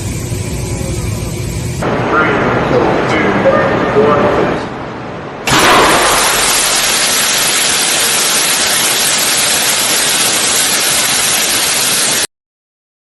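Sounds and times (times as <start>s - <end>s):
loud steady rushing noise: 0.0s - 12.3s.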